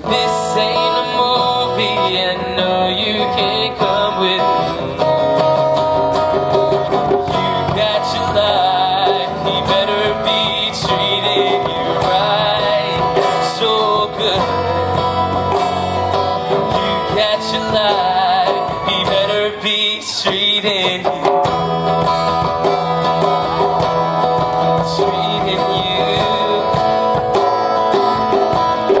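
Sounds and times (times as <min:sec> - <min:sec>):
acoustic guitar strummed: 0:00.0 - 0:29.0
hand drum: 0:00.0 - 0:29.0
person singing: 0:00.0 - 0:29.0.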